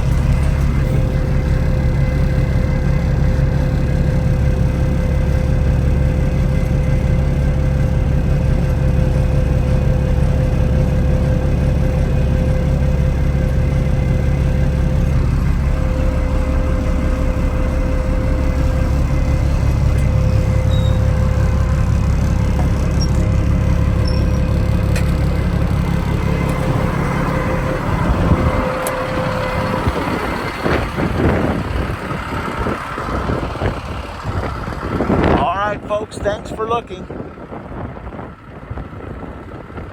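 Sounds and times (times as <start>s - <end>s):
diesel truck engine running: 0.0s - 39.9s
steady whine: 0.0s - 39.9s.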